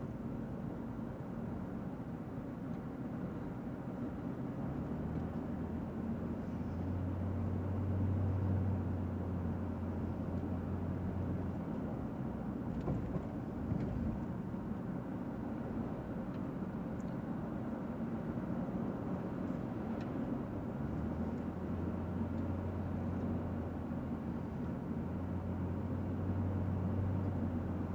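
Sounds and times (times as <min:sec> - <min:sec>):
engine and road drone: 0:00.0 - 0:27.9.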